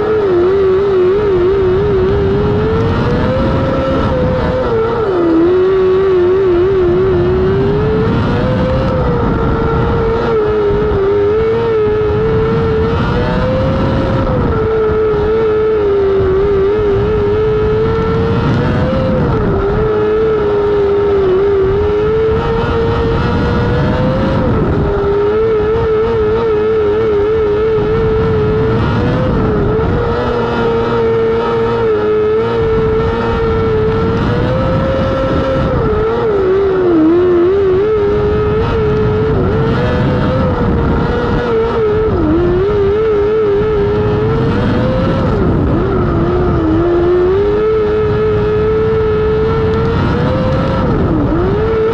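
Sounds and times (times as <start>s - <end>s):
racing car engine: 0.0s - 51.9s.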